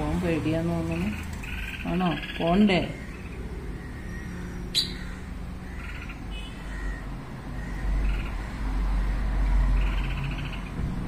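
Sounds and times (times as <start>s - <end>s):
small birds buzzy chirps: 0.7s - 10.8s.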